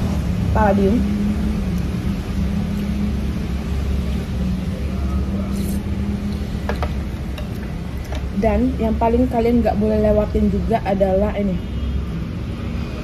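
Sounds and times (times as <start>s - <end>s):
low mechanical rumble: 0.0s - 11.3s
constant hum: 0.0s - 12.4s.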